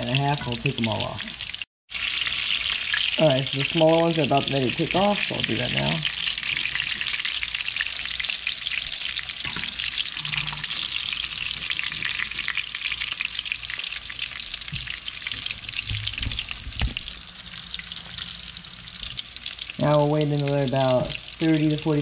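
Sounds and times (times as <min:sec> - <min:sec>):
fish frying in oil: 0:00.0 - 0:22.0.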